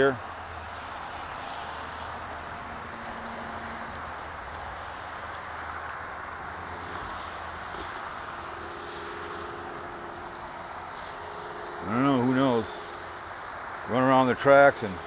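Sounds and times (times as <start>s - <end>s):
highway traffic noise: 0.0s - 15.0s
faint engine tone: 2.1s - 15.0s.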